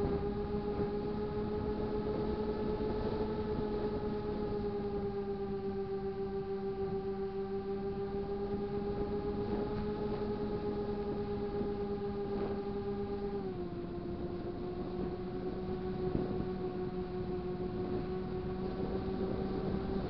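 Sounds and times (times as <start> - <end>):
model airplane motor whining: 0.0 - 20.0.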